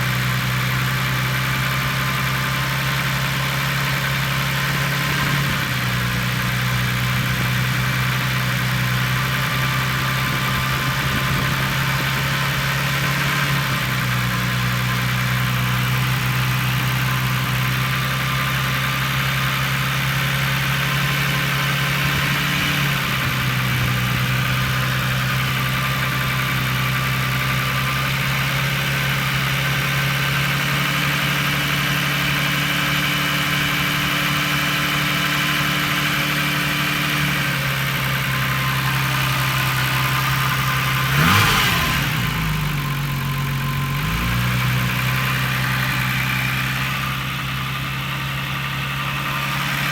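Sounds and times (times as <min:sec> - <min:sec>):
car engine idling roughly: 0:00.0 - 0:49.9.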